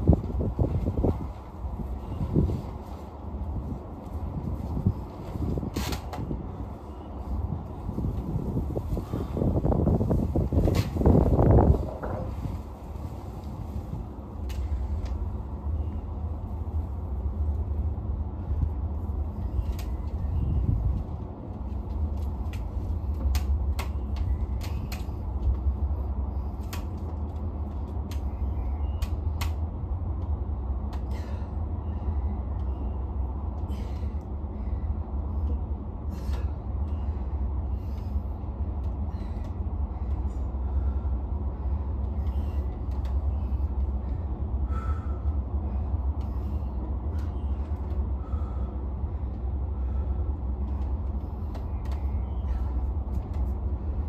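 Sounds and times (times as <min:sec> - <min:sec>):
low city rumble: 0:00.0 - 0:54.0.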